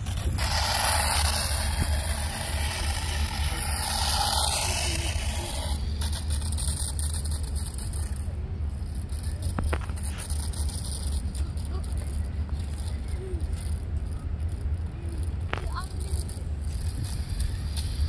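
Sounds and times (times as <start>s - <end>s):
steady low rumble: 0.0s - 18.0s
toy motorcycle motor whirring: 0.0s - 18.0s.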